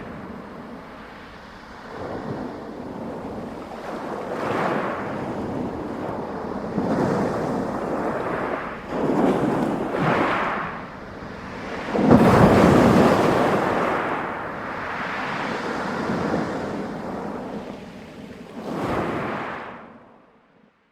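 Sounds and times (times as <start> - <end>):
waves breaking on pebble beach: 0.0 - 17.4.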